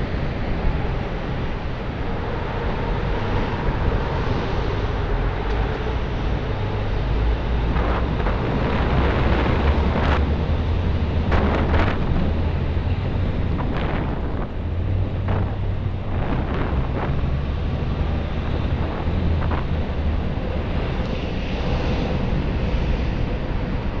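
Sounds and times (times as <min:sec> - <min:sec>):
traffic rumble: 0:00.0 - 0:24.0
wind rushing over microphone: 0:00.0 - 0:24.0.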